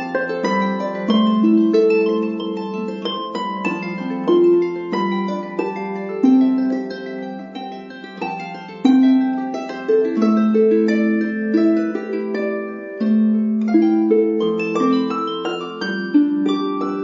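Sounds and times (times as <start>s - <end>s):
calm instrumental music: 0.0s - 17.0s.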